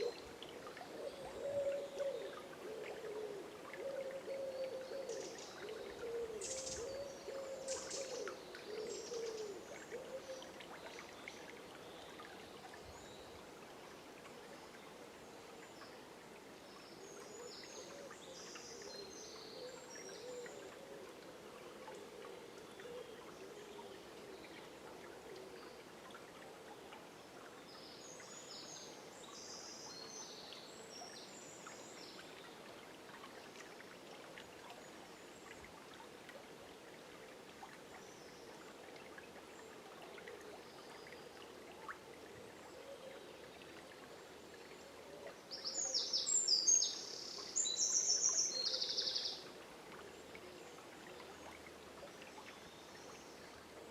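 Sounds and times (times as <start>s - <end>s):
river flowing: 0.0s - 53.9s.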